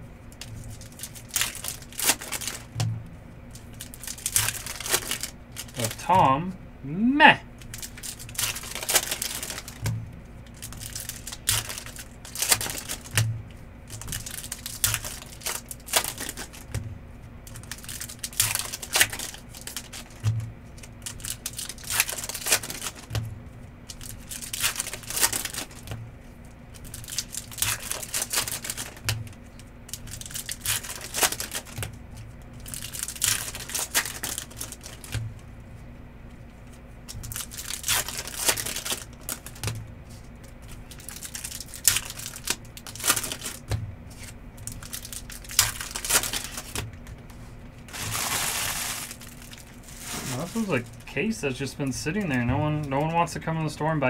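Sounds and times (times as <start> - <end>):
wrapper crinkling: 0.4 - 2.8, 3.5 - 6.1, 7.6 - 16.8, 17.4 - 23.2, 23.8 - 26.0, 26.7 - 35.2, 36.7 - 51.1.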